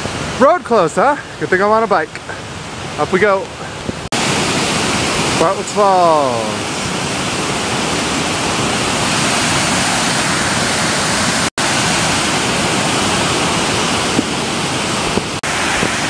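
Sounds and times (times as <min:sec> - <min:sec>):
rushing whitewater: 0:00.0 - 0:16.0.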